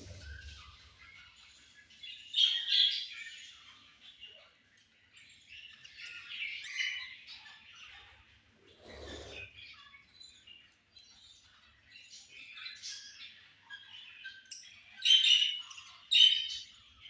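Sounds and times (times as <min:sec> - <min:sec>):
budgerigars chirping: 0:00.0 - 0:04.6, 0:05.6 - 0:17.0.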